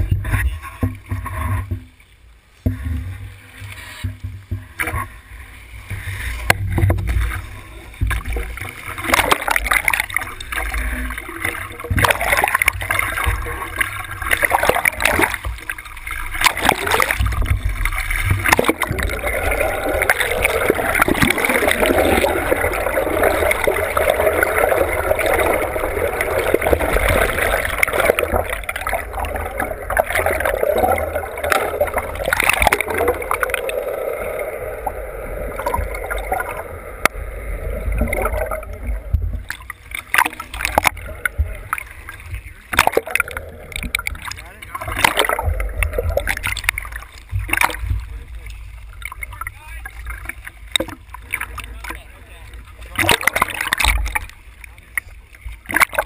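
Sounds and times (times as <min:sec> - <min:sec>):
sea water splashing: 0:00.0 - 0:56.0
underwater gurgling wash: 0:00.0 - 0:56.0.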